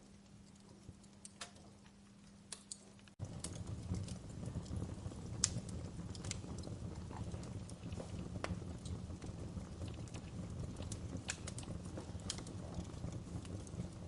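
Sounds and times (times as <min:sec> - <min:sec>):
burning logs popping: 0:00.0 - 0:14.0
wood fire crackling: 0:00.0 - 0:14.0.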